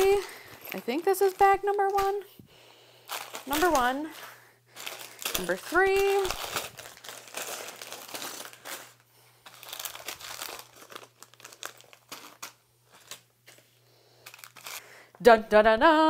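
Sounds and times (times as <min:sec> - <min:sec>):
plastic bags crinkling: 0:00.0 - 0:02.3, 0:02.9 - 0:15.2.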